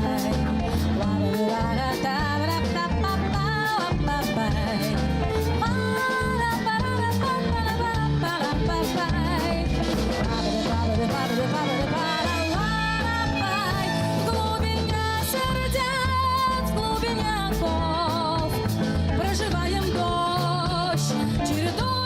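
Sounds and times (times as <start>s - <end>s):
bass line: 0.0s - 22.0s
drum kit beat: 0.0s - 22.0s.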